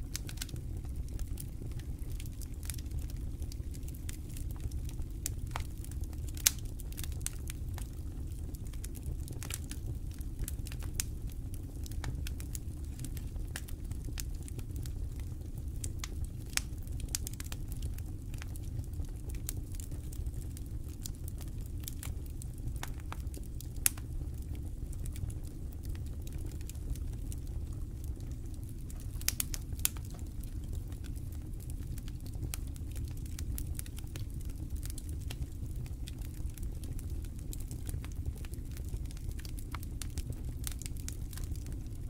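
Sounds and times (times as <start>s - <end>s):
campfire crackling: 0.0s - 42.0s
low rumble of flame: 0.0s - 42.0s.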